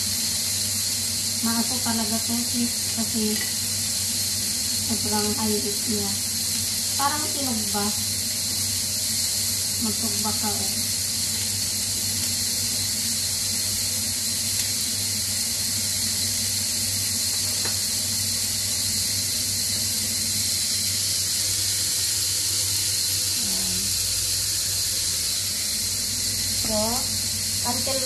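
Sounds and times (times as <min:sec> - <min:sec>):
broccoli sizzling in oil: 0:00.0 - 0:28.0.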